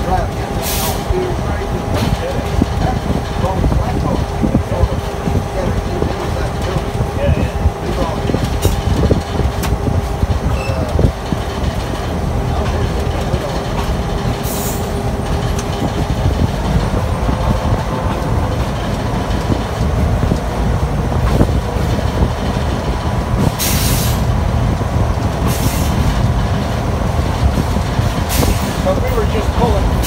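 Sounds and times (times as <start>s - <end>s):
locomotive rumbling on rails: 0.0s - 30.0s.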